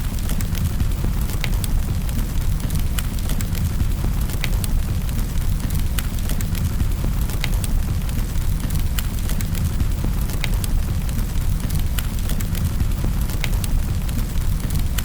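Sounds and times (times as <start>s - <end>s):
burning wood crackling and popping: 0.0s - 15.0s.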